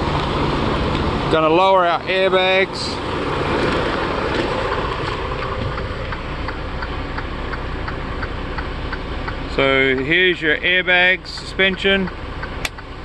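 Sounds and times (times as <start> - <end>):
diesel engine idling: 0.0 - 13.0
regular ticking: 2.0 - 13.0.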